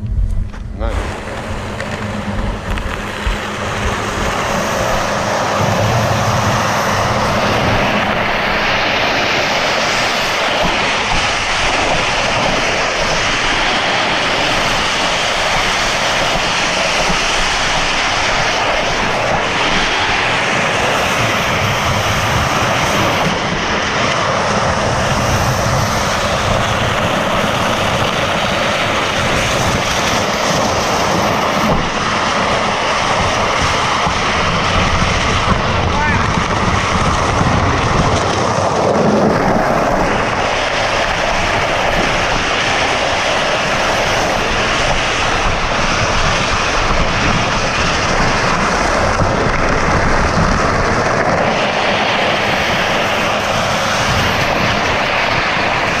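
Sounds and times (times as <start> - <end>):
vehicle engine accelerating: 0.0 - 56.0.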